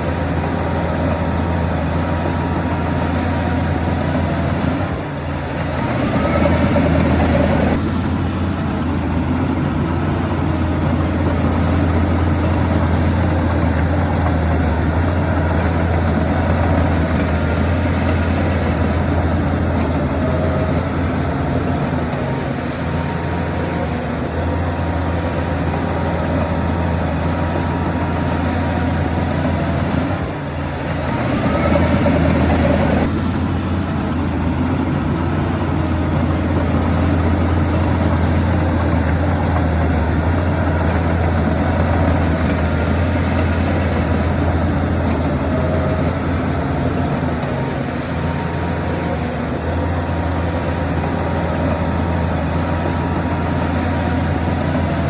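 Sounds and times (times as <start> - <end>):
heavy diesel engines droning: 0.0 - 55.0.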